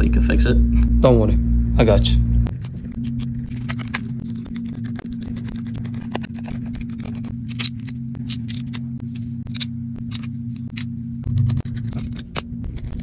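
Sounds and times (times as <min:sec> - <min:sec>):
steady low hum: 0:00.0 - 0:13.0
tools clicking on phone parts: 0:02.5 - 0:13.0.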